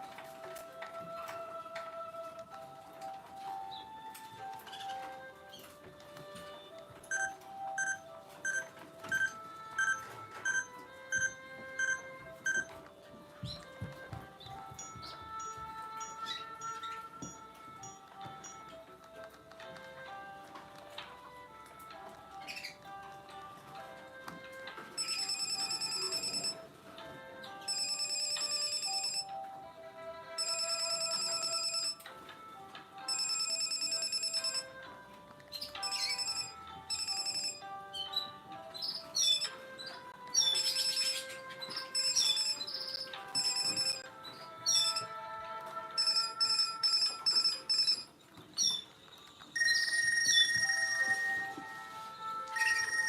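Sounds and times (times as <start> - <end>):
polyphonic phone ringtone: 3.0 - 53.0.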